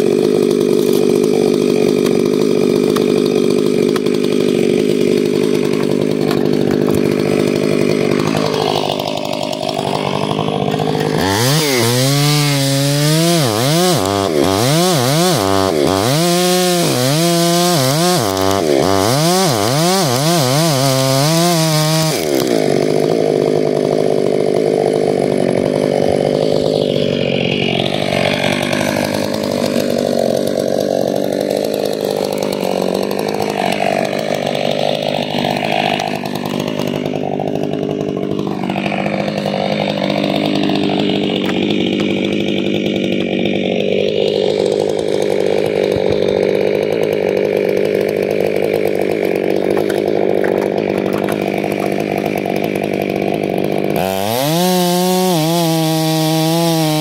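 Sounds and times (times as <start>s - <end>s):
chainsaw cutting into tree trunk: 0.0s - 57.0s
chainsaw running steadily: 0.0s - 57.0s.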